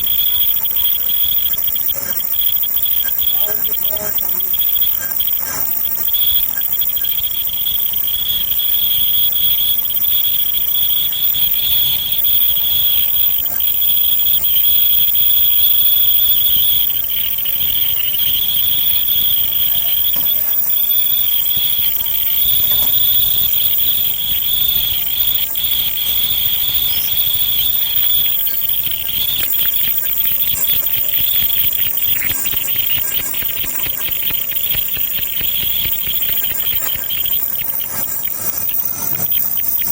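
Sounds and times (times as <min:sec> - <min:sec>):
insects shrilling: 0:00.0 - 0:39.9.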